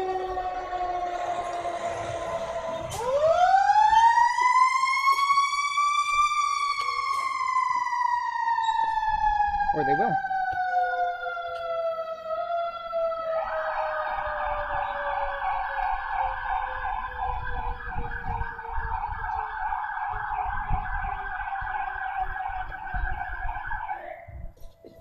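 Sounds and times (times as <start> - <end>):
siren winding down: 0.0 - 24.4
warbling siren: 0.0 - 25.0.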